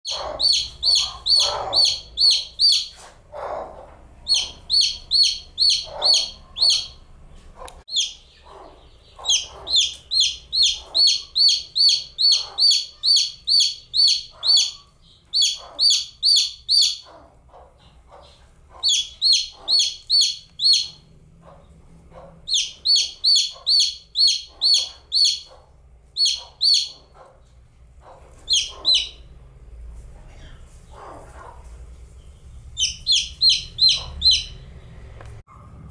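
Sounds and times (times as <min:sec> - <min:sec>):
chick peeping: 0:00.1 - 0:27.3, 0:28.0 - 0:29.3, 0:32.2 - 0:34.7.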